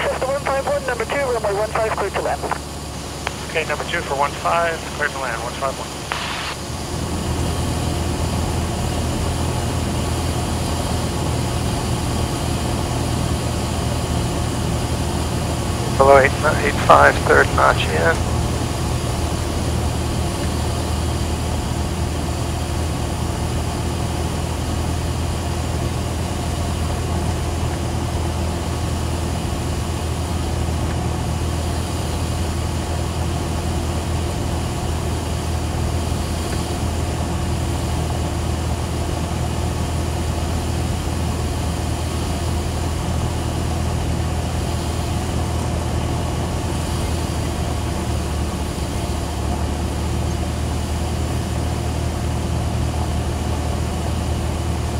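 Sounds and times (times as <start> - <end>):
airplane engine drone in cockpit: 0.0 - 54.9.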